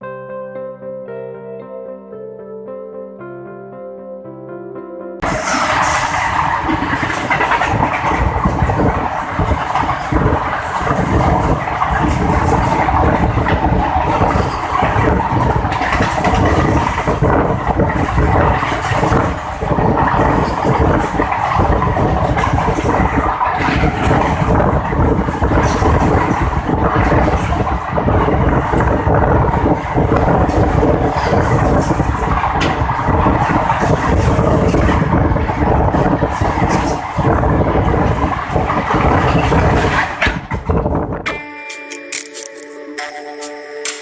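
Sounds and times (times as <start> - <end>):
train rumbling on rails: 5.2 - 41.4
wagon wheels clattering: 5.3 - 41.2.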